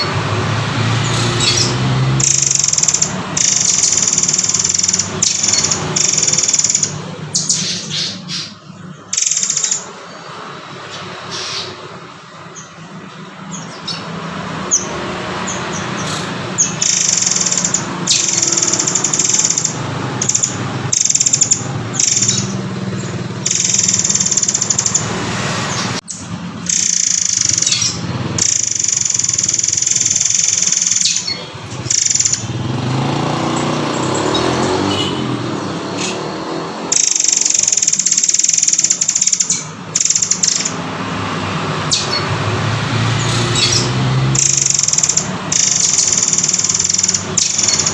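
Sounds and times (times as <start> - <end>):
songbird whistling: 0.9 - 10.3, 13.5 - 35.2, 36.9 - 40.8, 41.8 - 42.4, 43.1 - 47.9.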